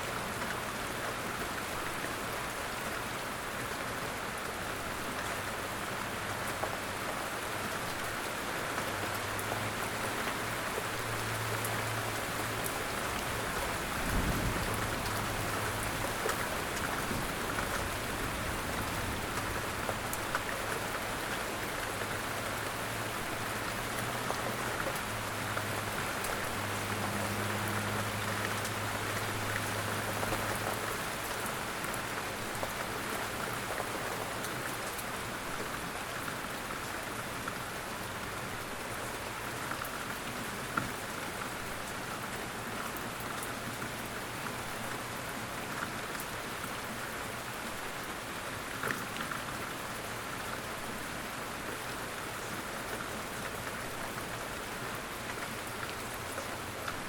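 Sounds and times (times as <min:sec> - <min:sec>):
light rain in woodland: 0:00.0 - 0:57.0.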